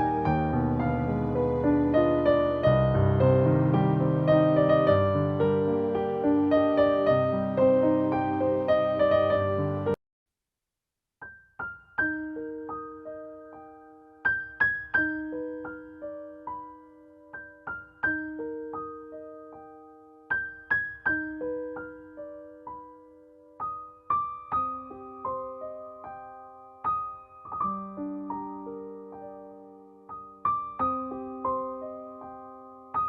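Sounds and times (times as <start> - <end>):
solo piano melody: 0.0 - 10.0, 11.2 - 33.0.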